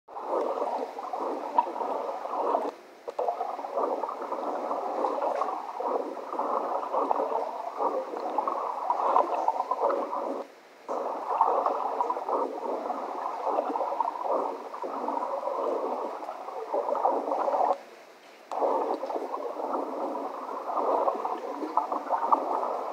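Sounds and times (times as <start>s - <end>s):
churning gurgling water: 0.1s - 17.9s, 18.5s - 22.9s.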